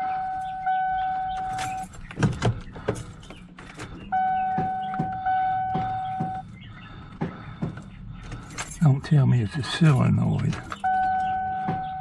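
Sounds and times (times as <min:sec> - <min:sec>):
car warning tone: 0:00.0 - 0:02.0, 0:03.9 - 0:12.0.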